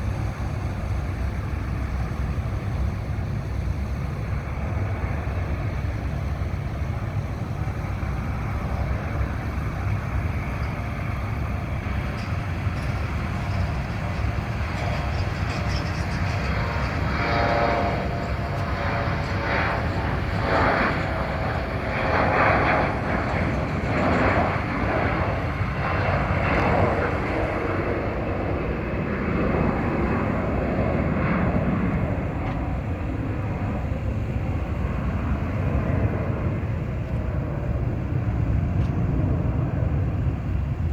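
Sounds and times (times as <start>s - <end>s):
airplane engines: 0.0s - 40.9s.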